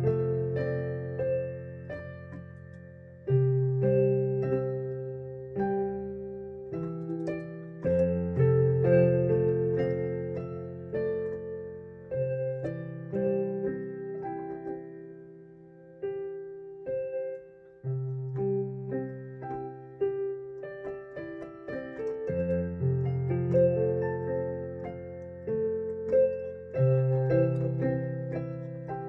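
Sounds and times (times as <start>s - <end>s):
keyboard piano chords: 0.0s - 29.0s.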